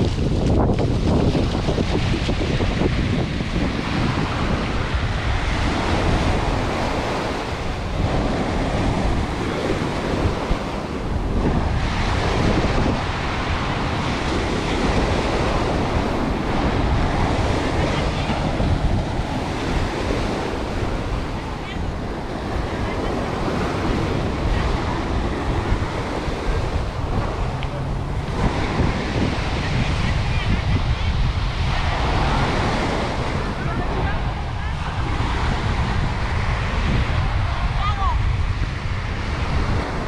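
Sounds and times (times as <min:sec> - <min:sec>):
ocean waves breaking on beach: 0:00.0 - 0:40.0
wind buffeting microphone: 0:00.0 - 0:40.0.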